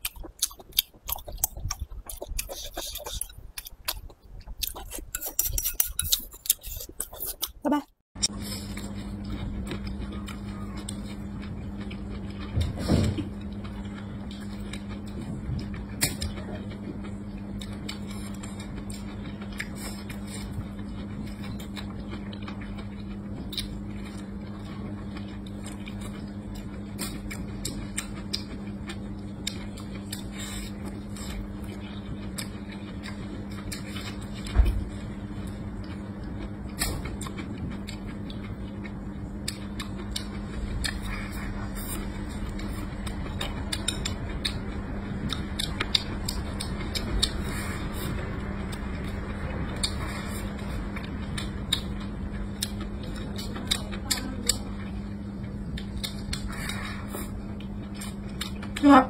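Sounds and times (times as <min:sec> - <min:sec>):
person chewing food: 0:00.0 - 0:58.8
steady low hum: 0:00.0 - 0:59.0.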